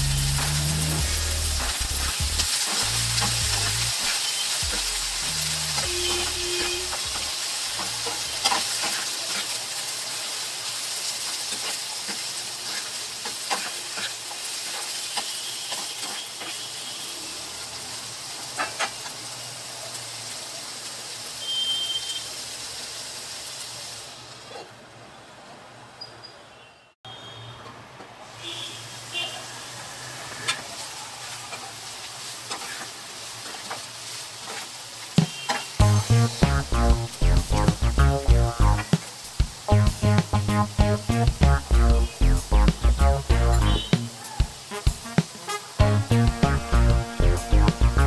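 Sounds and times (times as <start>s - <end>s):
beans sizzling in hot oil: 0.0s - 24.5s, 28.2s - 48.0s.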